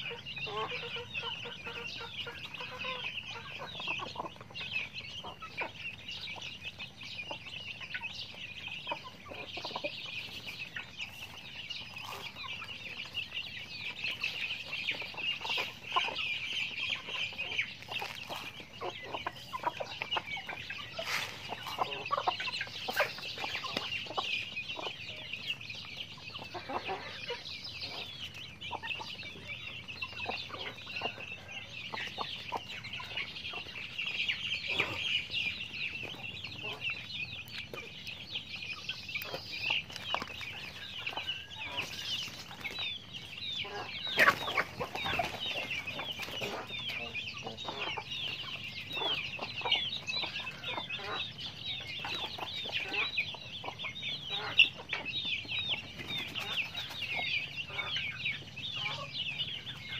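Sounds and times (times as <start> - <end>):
chicks peeping: 0.0 - 59.9
hens clucking: 0.0 - 59.9.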